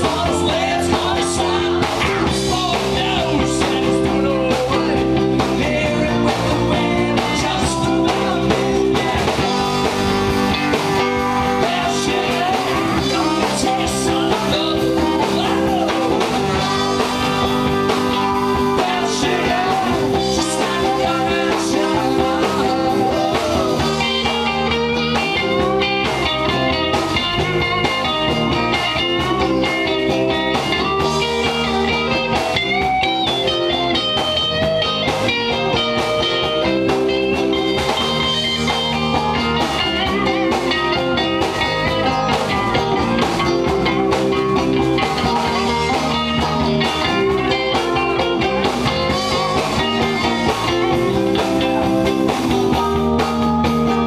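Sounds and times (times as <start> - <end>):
blues-rock band music: 0.0 - 54.0
electric guitar: 0.0 - 54.0.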